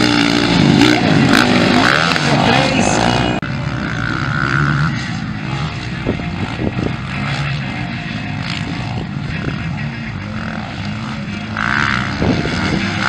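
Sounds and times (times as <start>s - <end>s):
bikes running around a track: 0.0s - 13.0s
motocross bike engines revving: 0.0s - 13.0s.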